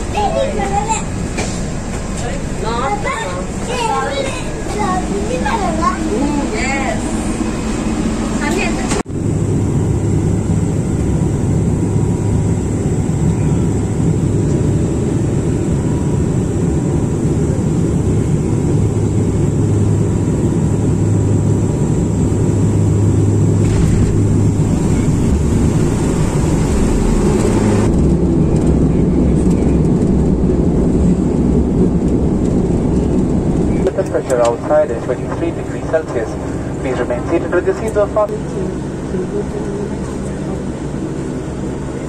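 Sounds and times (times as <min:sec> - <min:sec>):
propeller engines droning: 0:00.0 - 0:42.0.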